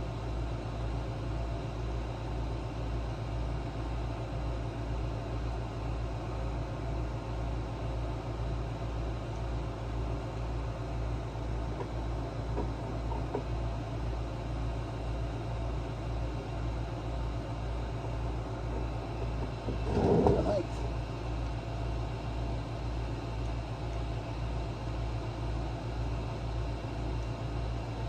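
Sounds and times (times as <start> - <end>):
generator engine running: 5.2 - 28.0.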